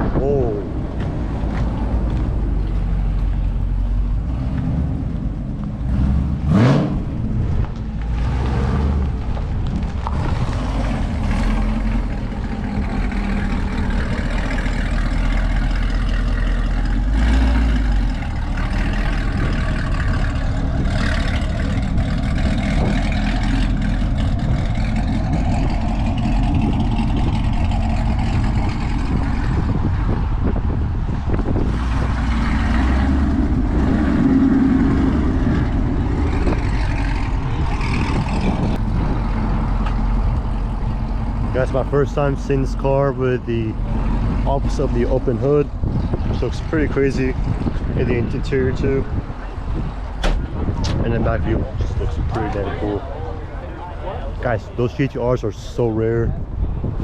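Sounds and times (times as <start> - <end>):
car engines rumbling: 0.0 - 57.0.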